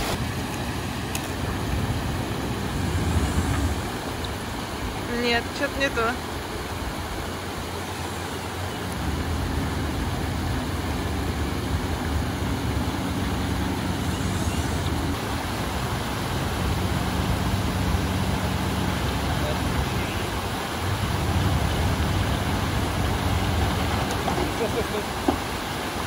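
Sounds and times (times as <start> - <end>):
car engine running: 0.0 - 26.0
shallow creek rushing: 0.0 - 26.0.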